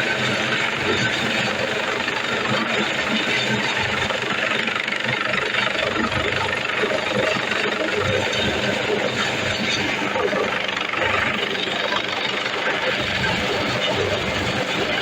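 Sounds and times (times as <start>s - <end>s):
helicopter engines and rotor: 0.0s - 15.0s.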